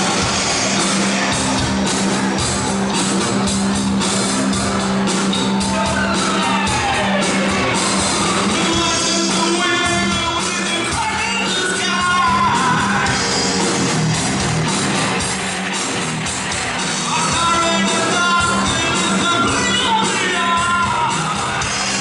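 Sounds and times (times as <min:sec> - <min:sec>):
rock music with singer: 0:00.0 - 0:22.0.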